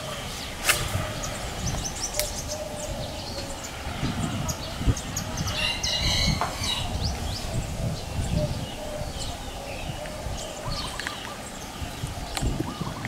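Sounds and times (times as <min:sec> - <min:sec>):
bird chirps and calls: 0:00.0 - 0:13.0
low outdoor rumble: 0:00.0 - 0:13.0.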